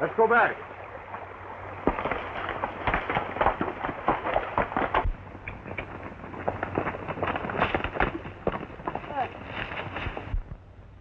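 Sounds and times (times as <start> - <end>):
horse hooves on rough ground: 0.9 - 11.0.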